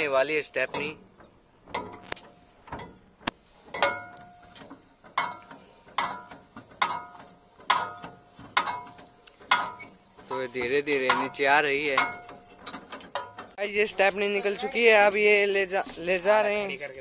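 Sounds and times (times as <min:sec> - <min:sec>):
winch metal clanks and clicks: 0:00.0 - 0:15.2.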